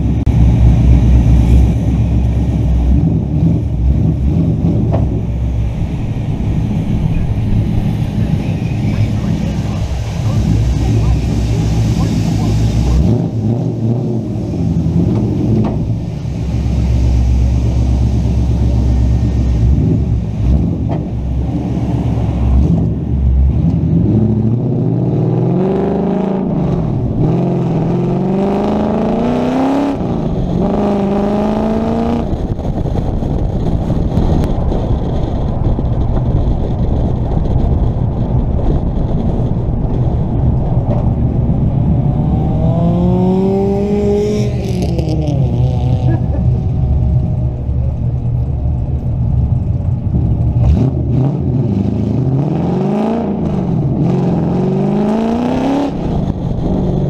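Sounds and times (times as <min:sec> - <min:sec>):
car engine accelerating: 0:00.0 - 0:57.0
wind rumble on microphone: 0:00.0 - 0:57.0.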